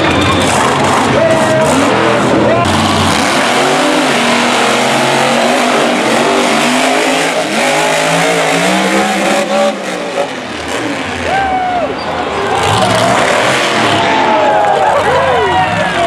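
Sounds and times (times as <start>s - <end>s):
monster truck engines revving: 0.0s - 16.0s.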